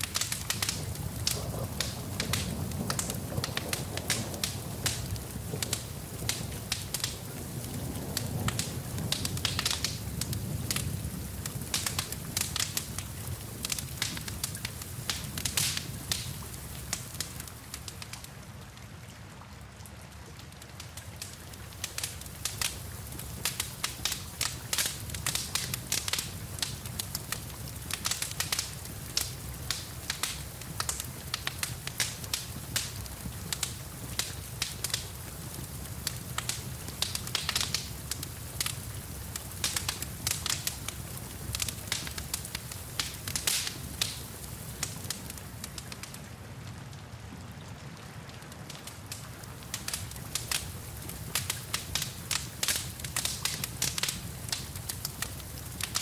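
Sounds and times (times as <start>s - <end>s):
wood fire crackling and popping: 0.0s - 18.4s, 20.3s - 56.0s
background hiss and rumble: 0.0s - 56.0s.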